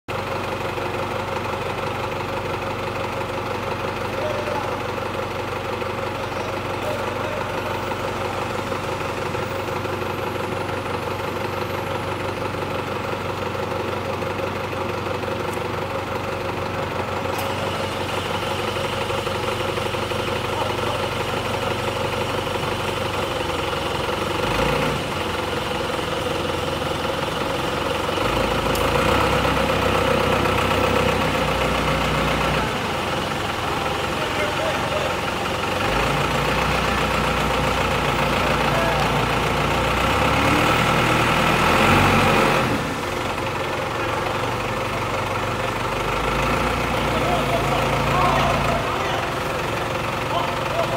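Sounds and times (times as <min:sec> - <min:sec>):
forklift engine running: 0:00.1 - 0:50.9.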